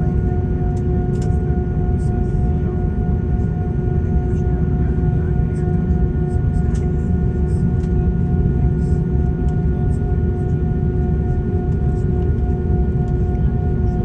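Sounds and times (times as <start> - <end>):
low rumble of air systems: 0.0 - 14.0.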